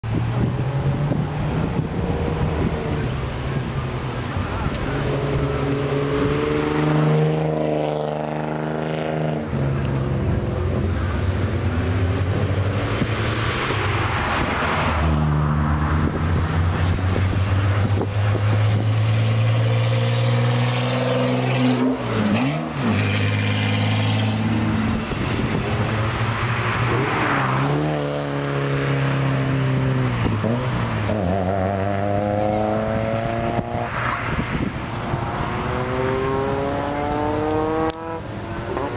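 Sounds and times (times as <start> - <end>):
car engine revving: 0.2 - 38.9.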